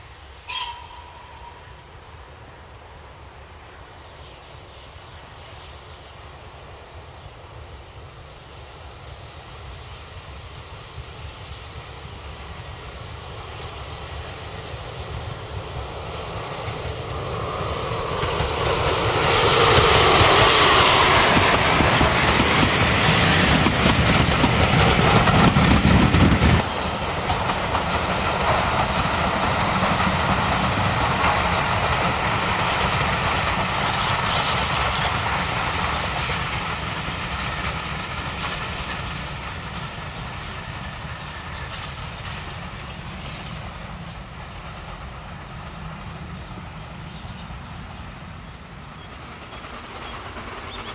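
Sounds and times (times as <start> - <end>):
steam locomotive passing: 0.0 - 50.9.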